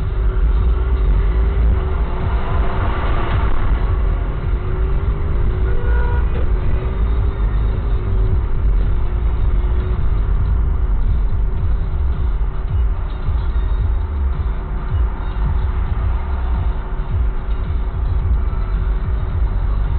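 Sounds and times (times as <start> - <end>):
car engine and road noise: 0.0 - 19.9.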